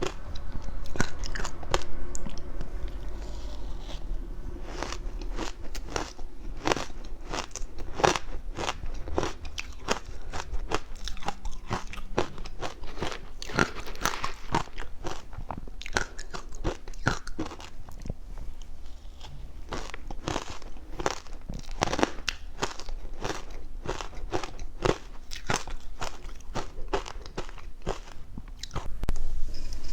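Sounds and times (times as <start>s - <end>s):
crunching and chewing ice: 0.0s - 28.9s.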